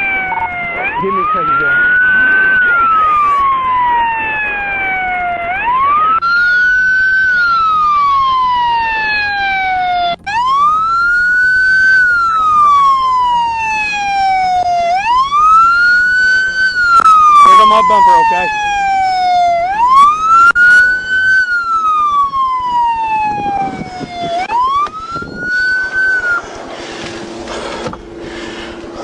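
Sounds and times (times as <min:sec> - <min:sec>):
police siren wailing: 0:00.0 - 0:29.0.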